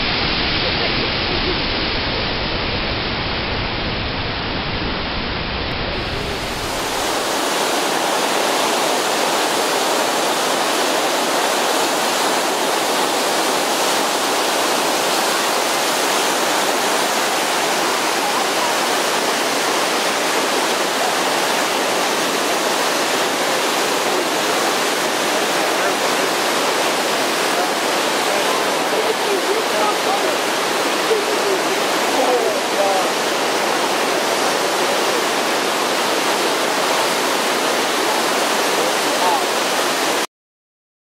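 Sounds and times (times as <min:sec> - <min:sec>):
whitewater rushing over rocks: 0:00.0 - 0:40.3
waterfall pouring into water: 0:05.9 - 0:40.3.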